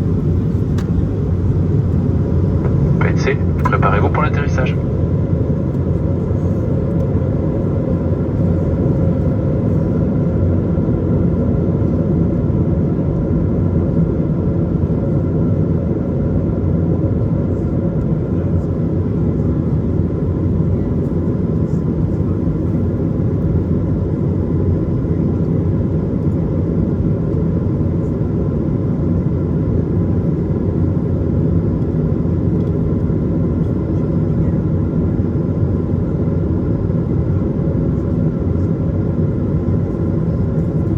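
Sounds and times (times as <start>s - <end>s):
airplane airflow and engines: 0.0s - 40.9s.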